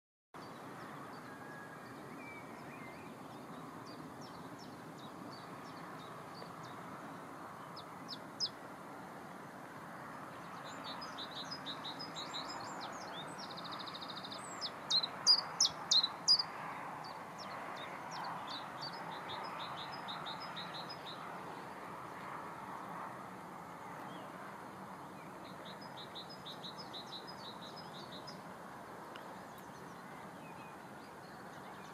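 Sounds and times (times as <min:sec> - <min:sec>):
songbirds chirping: 0:00.4 - 0:31.9.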